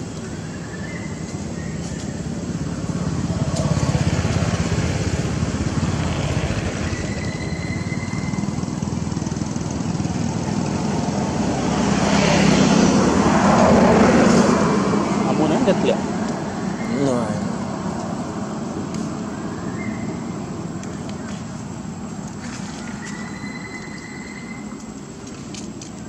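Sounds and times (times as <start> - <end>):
engine running with rumble: 0.0 - 26.0.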